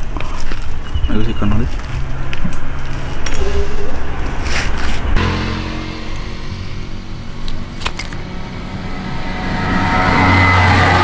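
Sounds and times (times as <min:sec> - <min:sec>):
engine running: 0:01.8 - 0:11.0.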